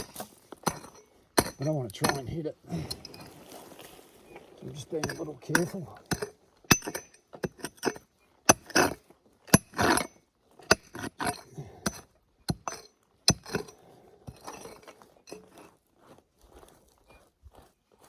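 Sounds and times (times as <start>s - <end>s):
pick clinking against rock: 0.0s - 3.8s, 4.6s - 15.7s
pick scraping through dirt: 0.0s - 15.8s.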